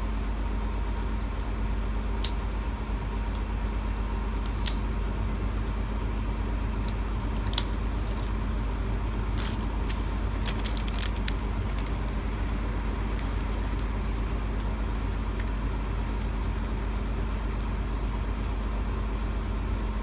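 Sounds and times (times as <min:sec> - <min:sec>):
vehicle engine droning: 0:02.9 - 0:20.0.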